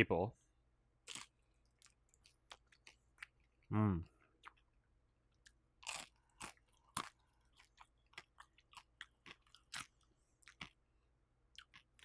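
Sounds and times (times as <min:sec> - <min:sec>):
crunchy chewing: 0:01.0 - 0:10.8, 0:11.5 - 0:12.0.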